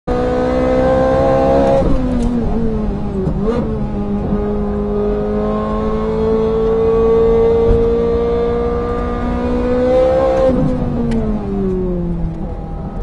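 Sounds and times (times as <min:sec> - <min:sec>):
sports car engine at full throttle: 0:00.1 - 0:13.0.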